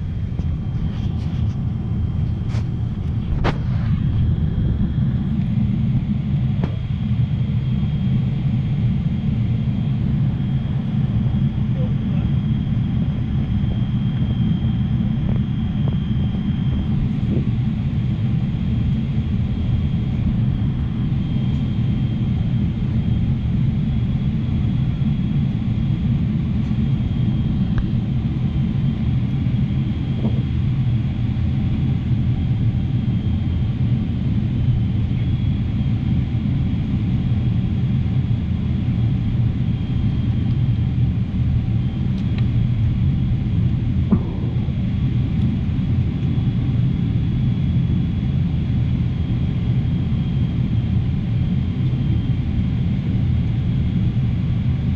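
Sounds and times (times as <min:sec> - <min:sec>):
faint high whine: 0:00.0 - 0:54.4
airliner cabin engine rumble: 0:00.0 - 0:54.9.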